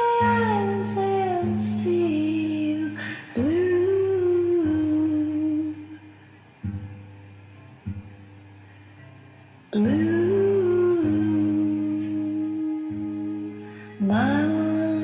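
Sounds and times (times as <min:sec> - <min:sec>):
wordless sung melody: 0:00.0 - 0:15.0.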